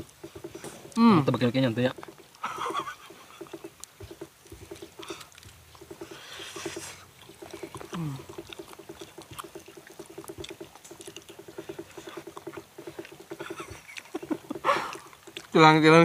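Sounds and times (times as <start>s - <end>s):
animal pulsing call: 0.0s - 15.6s
eating sounds: 0.0s - 16.0s.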